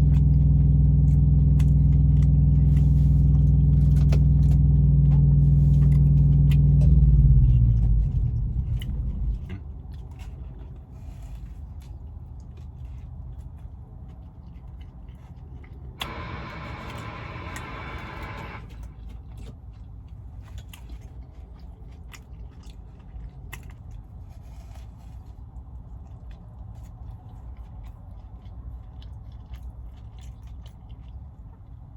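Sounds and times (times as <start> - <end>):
steady low rumble: 0.0 - 30.0
chewing and biting food: 0.0 - 31.9.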